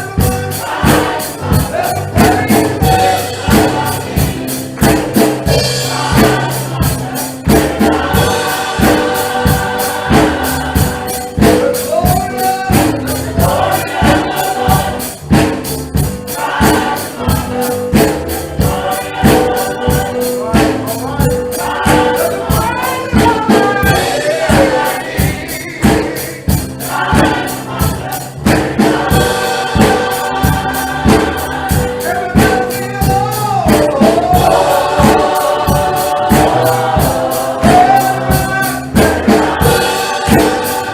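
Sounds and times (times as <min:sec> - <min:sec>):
band playing: 0:00.0 - 0:40.9
choir singing gospel: 0:00.0 - 0:40.9
drums: 0:00.0 - 0:40.9.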